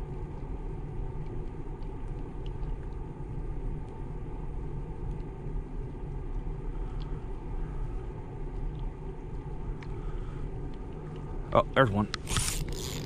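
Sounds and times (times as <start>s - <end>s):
faint ticks: 0.0s - 11.4s.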